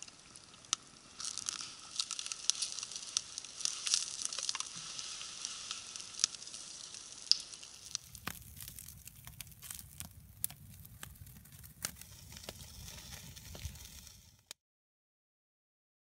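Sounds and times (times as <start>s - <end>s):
sizzling hiss: 0.0s - 14.5s
campfire crackling and popping: 0.0s - 14.6s
low rumble of flames: 0.4s - 14.5s.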